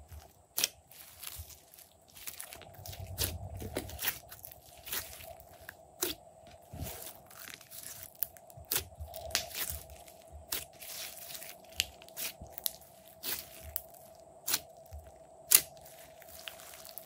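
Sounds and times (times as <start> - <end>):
faint steady hum: 0.0 - 17.0
slime squeezed crackling: 0.1 - 17.0.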